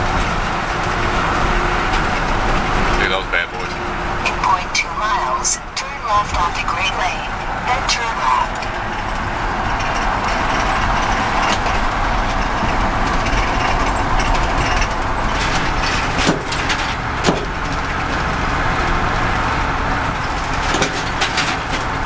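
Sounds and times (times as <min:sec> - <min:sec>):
road and engine noise in cab: 0:00.0 - 0:22.0.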